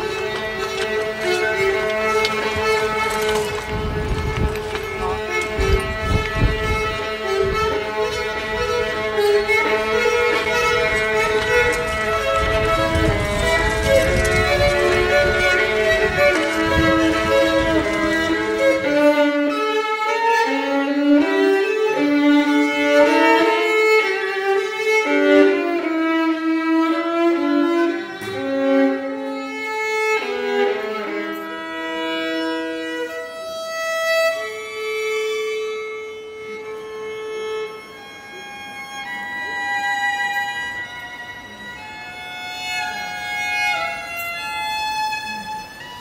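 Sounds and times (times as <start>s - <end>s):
solo violin playing: 0.0s - 46.0s.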